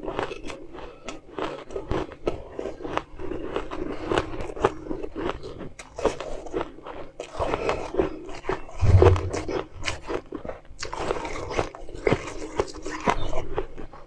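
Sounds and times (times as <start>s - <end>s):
crunching ice in mouth: 0.0s - 14.0s.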